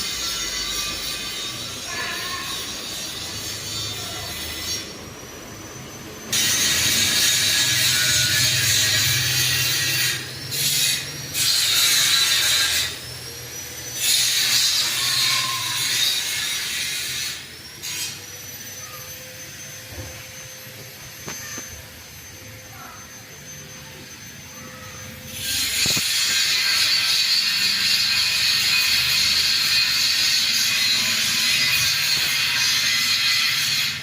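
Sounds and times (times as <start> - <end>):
high whine rising in pitch: 0.0 - 11.7, 12.6 - 34.0.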